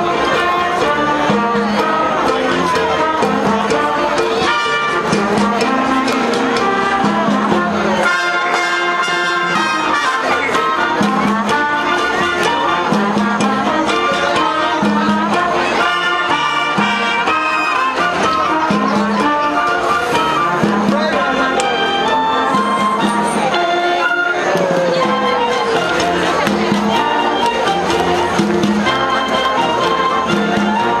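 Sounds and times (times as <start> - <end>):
orchestra playing live: 0.0 - 31.0.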